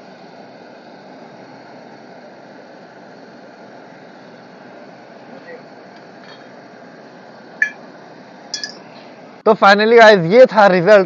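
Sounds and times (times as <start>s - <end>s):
frying in hot oil: 0.0s - 11.0s.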